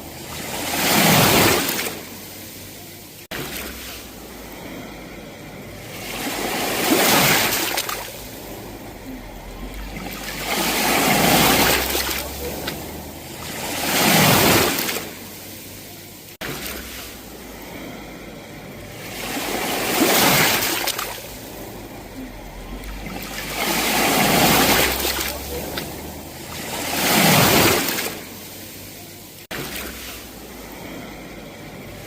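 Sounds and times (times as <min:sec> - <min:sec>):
sea waves breaking on shore: 0:00.0 - 0:32.0.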